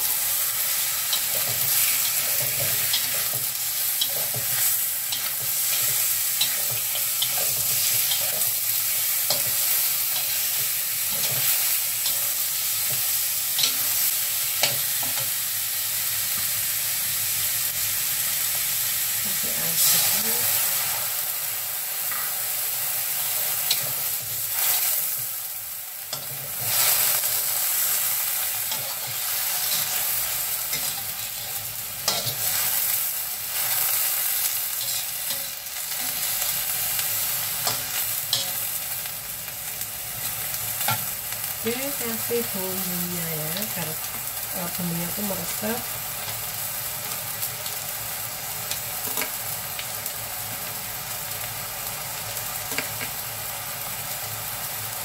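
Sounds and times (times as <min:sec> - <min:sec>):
food sizzling in a wok: 0:00.0 - 0:55.0.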